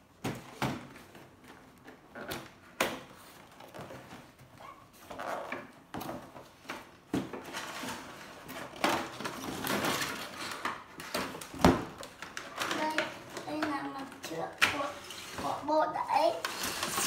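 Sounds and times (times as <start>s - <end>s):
cardboard and plastic rustling: 0.2s - 17.0s.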